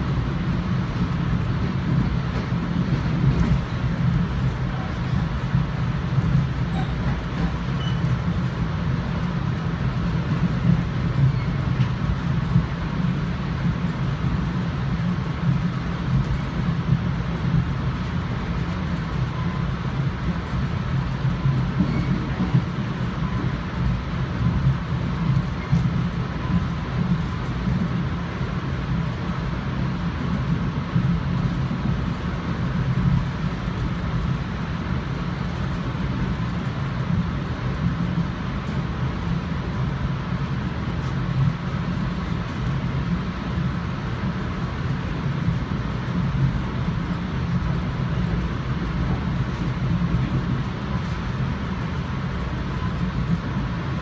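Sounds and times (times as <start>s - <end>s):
rail car body rattling: 0.0s - 54.0s
train wheels running on track: 0.0s - 54.0s.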